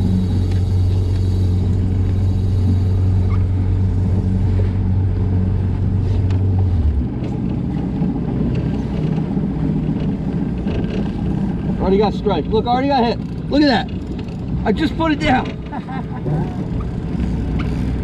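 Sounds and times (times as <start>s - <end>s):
boat engine humming: 0.0s - 18.0s
wind and water rumble: 0.0s - 18.0s.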